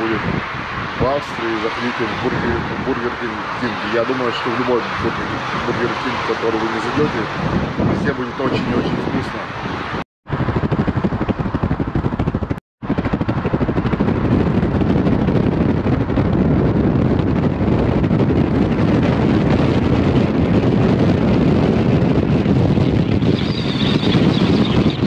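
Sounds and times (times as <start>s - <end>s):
car road noise at speed: 0.0s - 25.0s
wind buffeting microphone: 0.0s - 25.0s.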